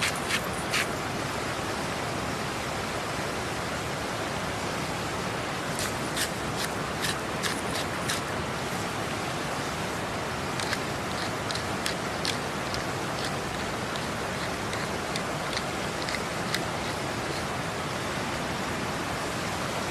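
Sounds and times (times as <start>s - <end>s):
river rushing: 0.0s - 19.9s.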